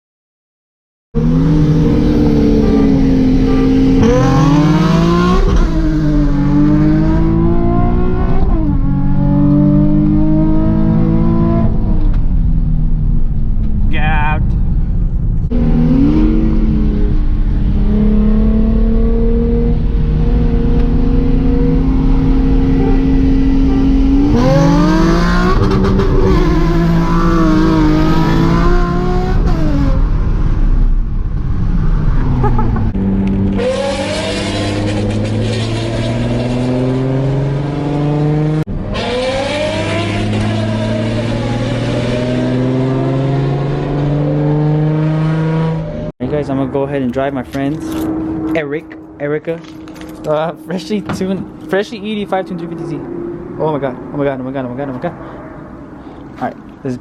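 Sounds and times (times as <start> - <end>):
sports car engine revving: 1.2 - 12.3, 15.5 - 30.6, 31.9 - 46.1, 47.6 - 56.2.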